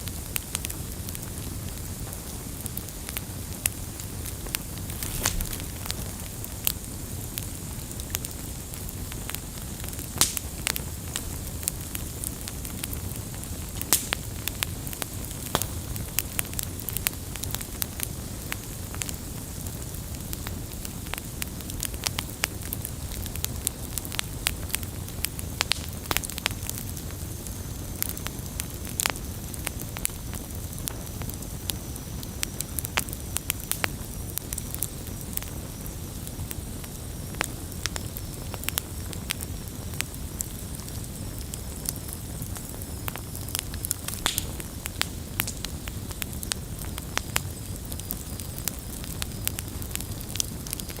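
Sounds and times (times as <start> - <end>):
fire pops and snaps: 0.0 - 51.0
wood fire crackling: 0.0 - 51.0.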